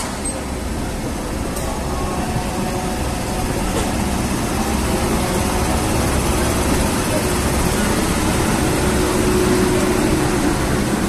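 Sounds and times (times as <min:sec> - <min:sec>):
locomotive motors humming: 0:00.0 - 0:11.0
rumble of train wheels: 0:00.0 - 0:11.0.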